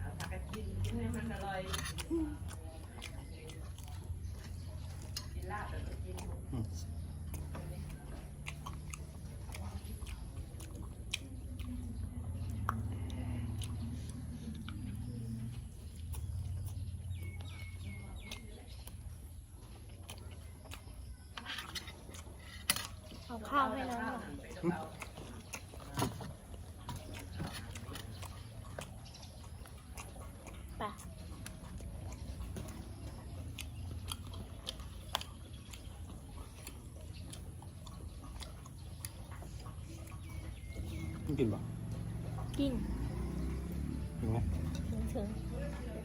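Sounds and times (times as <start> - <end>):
person chewing food: 0.0 - 46.0.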